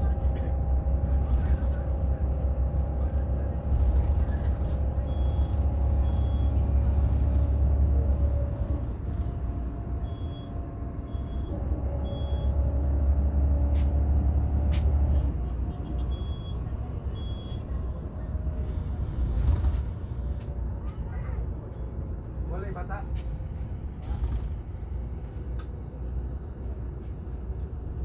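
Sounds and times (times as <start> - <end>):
vehicle engine and road rumble: 0.0 - 28.0.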